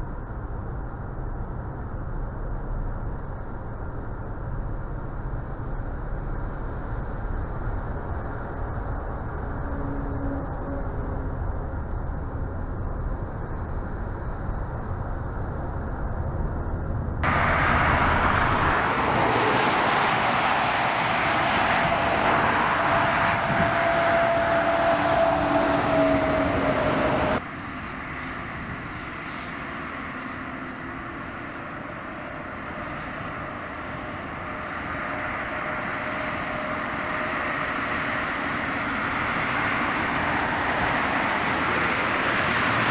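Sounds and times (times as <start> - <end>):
distant traffic hum: 0.0 - 42.9
road rumble inside car: 0.0 - 42.9
truck passing with whine: 0.0 - 42.9.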